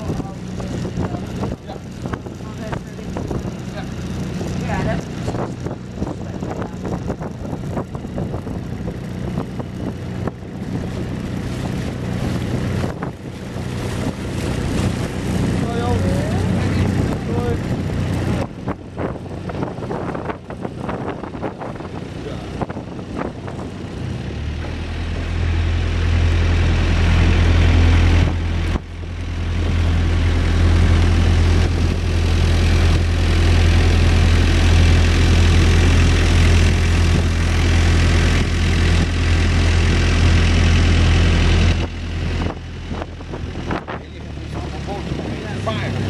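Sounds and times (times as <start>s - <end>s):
motorboat engine drone: 0.0s - 46.0s
water rushing along hull: 0.0s - 46.0s
wind noise: 0.0s - 46.0s.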